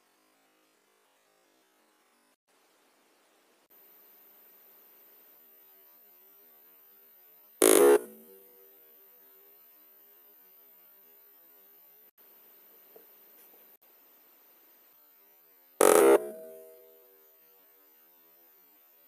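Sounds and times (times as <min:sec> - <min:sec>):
faint steady hum: 0:01.9 - 0:19.0.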